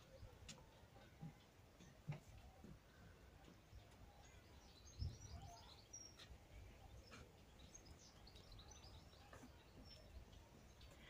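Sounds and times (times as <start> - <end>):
faint songbirds chirping: 0.0 - 11.0.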